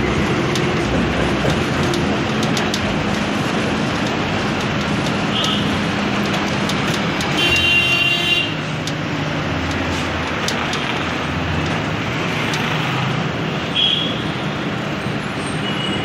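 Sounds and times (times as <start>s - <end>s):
vehicle engine rumble: 0.0s - 15.4s.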